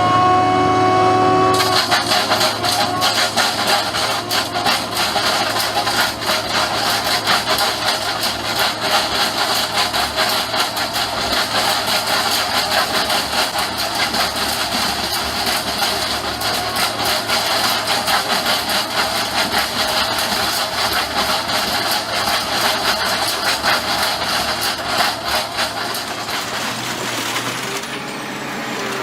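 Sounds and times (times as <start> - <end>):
heavy machinery engine hum: 0.0 - 29.0
clattering and crackling: 1.5 - 28.2.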